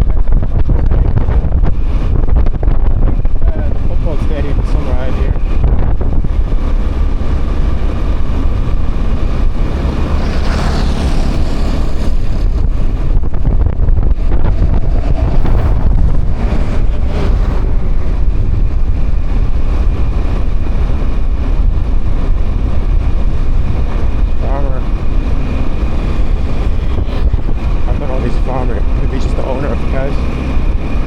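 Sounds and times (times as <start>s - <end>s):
motorbike engine and road noise: 0.0s - 31.0s
wind buffeting microphone: 0.0s - 31.0s.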